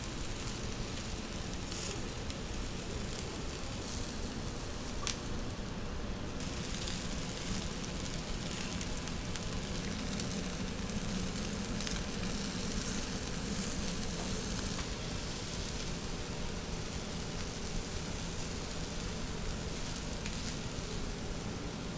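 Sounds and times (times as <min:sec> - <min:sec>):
faint crackles: 0:00.0 - 0:05.8, 0:06.4 - 0:21.9
skewers sizzling: 0:00.0 - 0:21.9.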